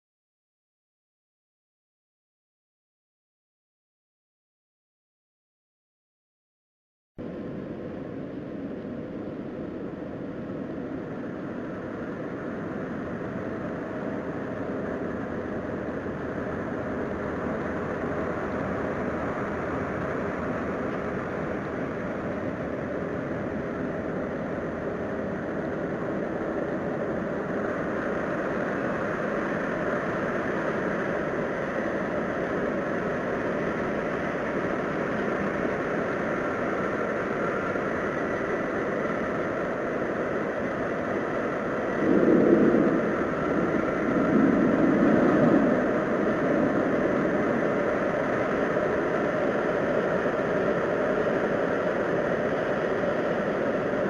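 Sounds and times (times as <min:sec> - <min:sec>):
droning hum with held tones: 0:07.2 - 0:54.0.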